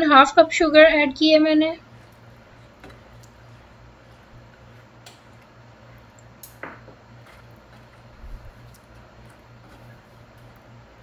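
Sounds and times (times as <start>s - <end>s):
steady low hum: 0.0s - 11.0s
spatula stirring pudding in pan: 1.8s - 10.9s.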